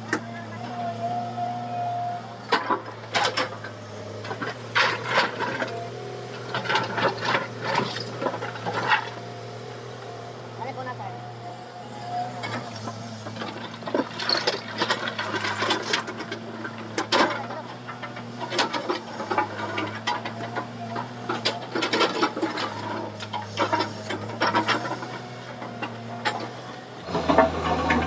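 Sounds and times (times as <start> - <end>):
excavator diesel engine humming: 0.0 - 28.0.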